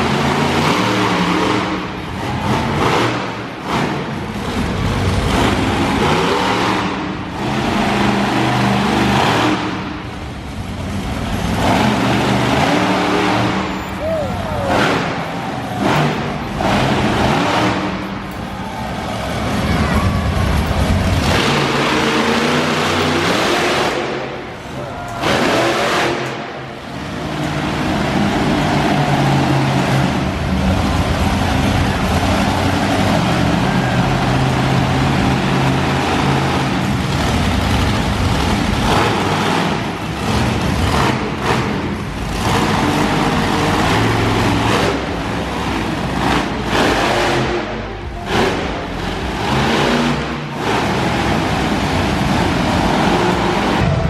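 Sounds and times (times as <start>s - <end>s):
monster truck engines revving: 0.0s - 54.0s.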